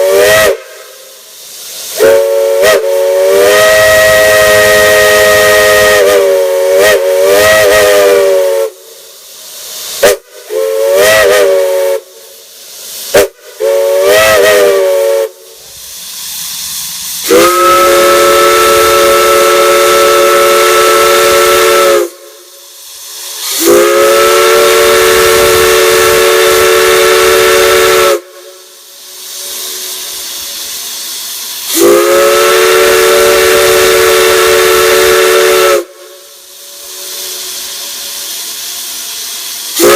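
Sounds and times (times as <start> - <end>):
steam whistle chord: 0.0 - 9.2, 10.0 - 15.9, 16.5 - 30.8, 31.6 - 39.9
steam hissing: 0.0 - 39.9.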